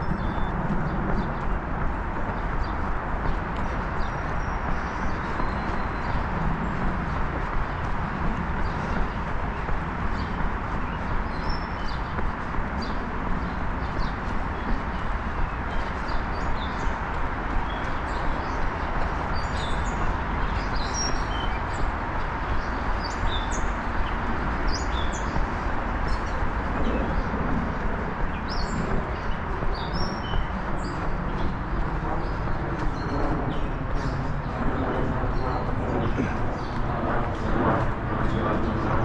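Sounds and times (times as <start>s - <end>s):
small birds chirping: 0.0s - 39.0s
steady rushing noise: 0.0s - 39.0s.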